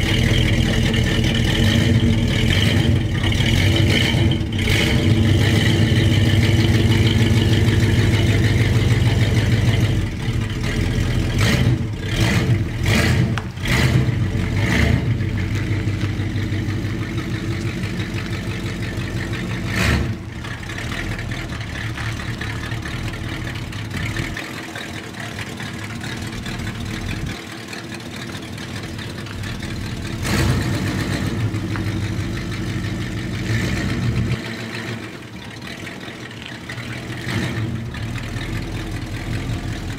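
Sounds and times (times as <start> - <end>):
pickup truck engine revving: 0.0 - 39.9.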